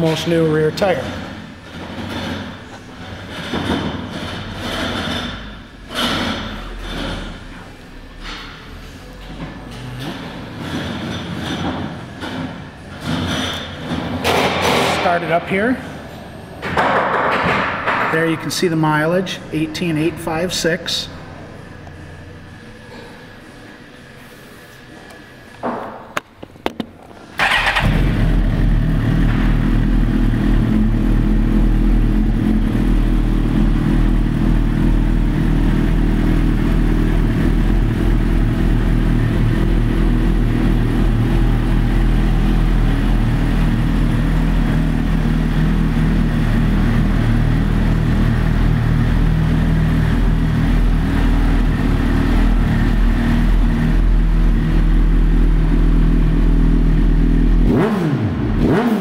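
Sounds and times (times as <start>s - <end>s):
motorcycle engine starting and idling: 0.0s - 15.4s, 26.7s - 59.0s.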